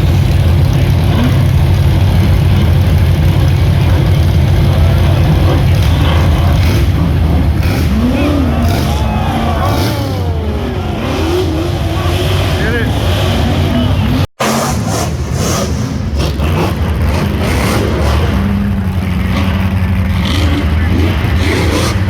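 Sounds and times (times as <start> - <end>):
buggy engine running hard: 0.0 - 22.0.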